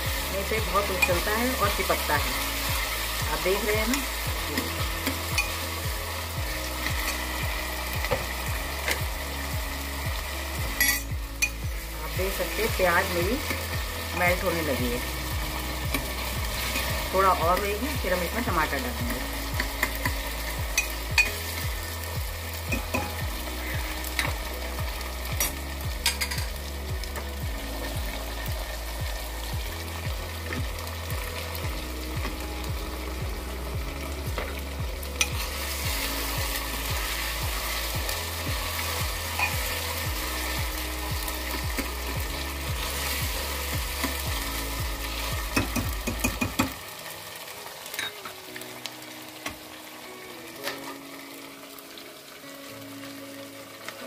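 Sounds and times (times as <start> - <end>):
background music bass line: 0.0 - 47.4
onions sizzling in oil: 0.0 - 54.0.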